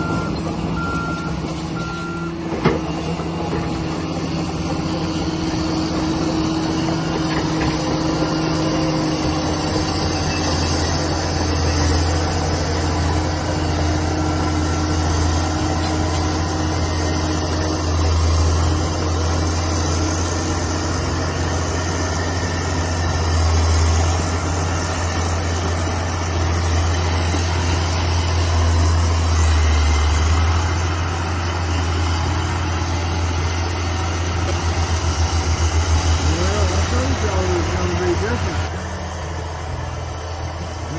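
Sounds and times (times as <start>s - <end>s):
bulldozer diesel engine droning: 0.0s - 40.9s.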